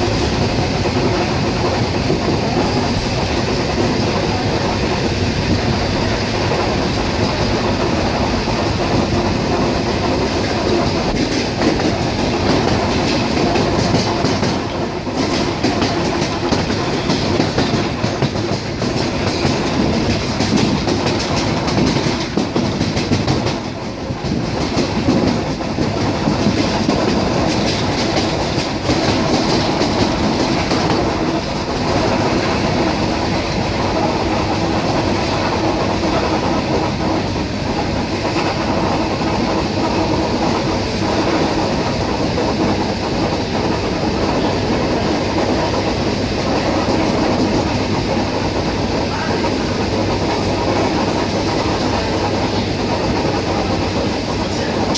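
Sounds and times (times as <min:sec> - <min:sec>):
electric train rumbling: 0:00.0 - 0:54.9
wheels clacking over rail joints: 0:00.0 - 0:54.9.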